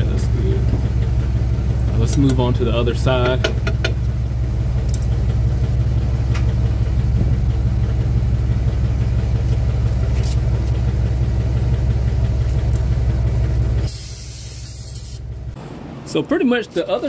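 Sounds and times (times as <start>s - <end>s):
van engine idling: 0.0s - 16.9s.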